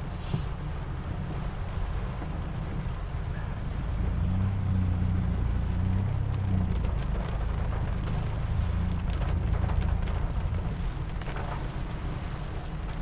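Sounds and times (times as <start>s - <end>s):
car driving rumble: 0.0s - 13.0s
raindrops hitting windshield: 0.0s - 13.0s.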